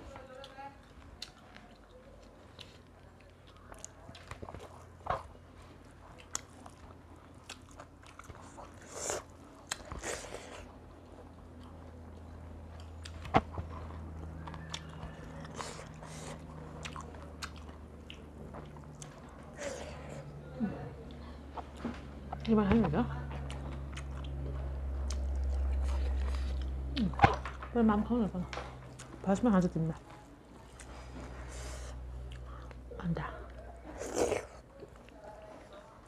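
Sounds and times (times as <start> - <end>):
chewing and wet mouth sounds: 0.2 - 20.4, 21.0 - 27.8, 28.5 - 36.0.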